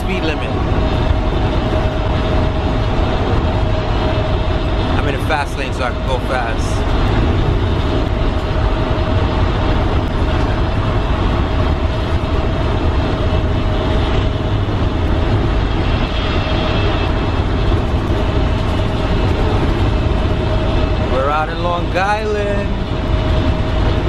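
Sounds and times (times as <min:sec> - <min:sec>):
bus engine and road noise: 0:00.0 - 0:24.0
mid-pitched whine: 0:00.0 - 0:24.0.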